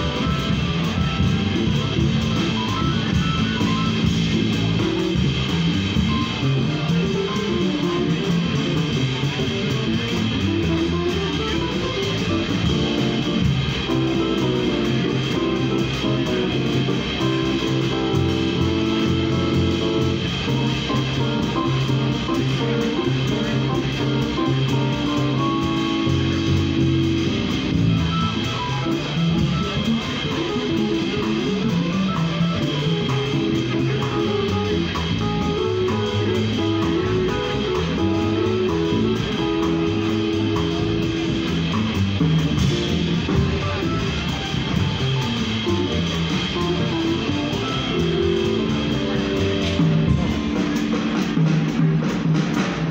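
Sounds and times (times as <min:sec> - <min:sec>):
drum kit: 0:00.0 - 0:52.9
electric keyboard chords: 0:00.0 - 0:52.9
plucked upright double bass: 0:00.0 - 0:52.9.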